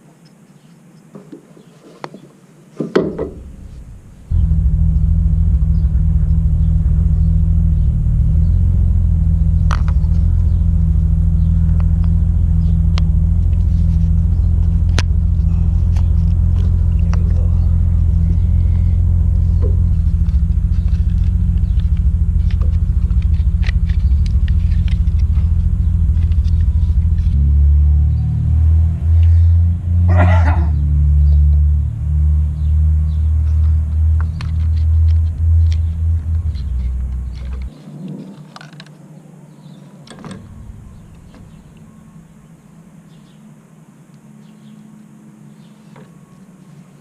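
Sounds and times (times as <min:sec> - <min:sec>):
vehicle engine idling: 0:03.0 - 0:37.8, 0:39.6 - 0:43.4.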